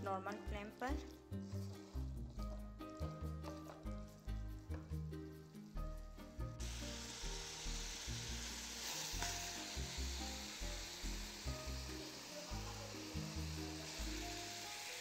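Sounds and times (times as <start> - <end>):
background music with bass: 0.0 - 14.4
meat sizzling in oil: 0.9 - 15.0.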